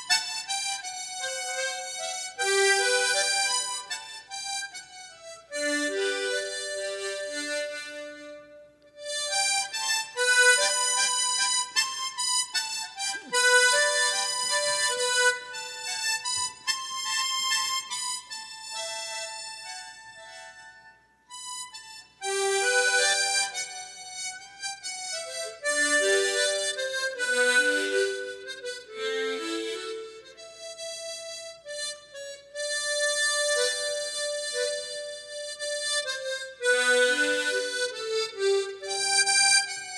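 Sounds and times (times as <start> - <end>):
harmonica slow melody: 0.0 - 39.9.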